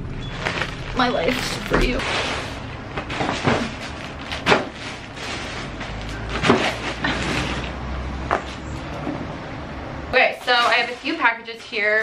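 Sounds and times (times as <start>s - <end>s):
rustle of handling packages: 0.2s - 9.0s, 10.2s - 12.0s.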